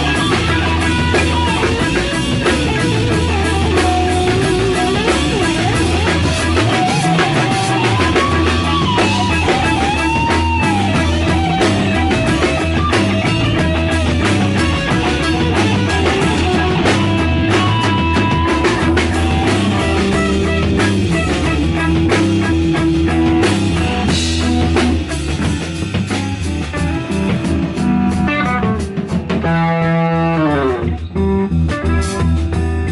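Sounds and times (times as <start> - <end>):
drum hits: 0.0 - 31.0
rock band playing live: 0.0 - 32.9.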